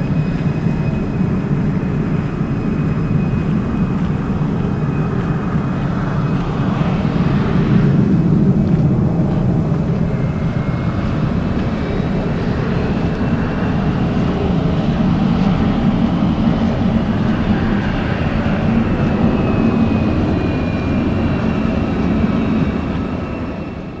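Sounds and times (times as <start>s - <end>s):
distant jet engines rumbling: 0.0s - 24.0s.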